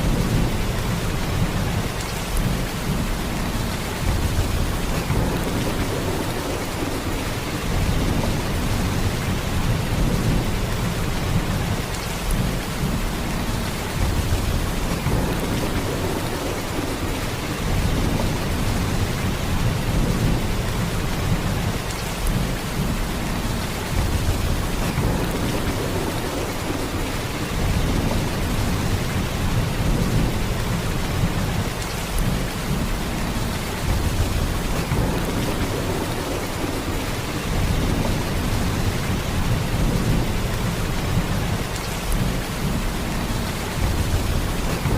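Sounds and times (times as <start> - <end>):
heavy rain downpour: 0.0 - 44.9.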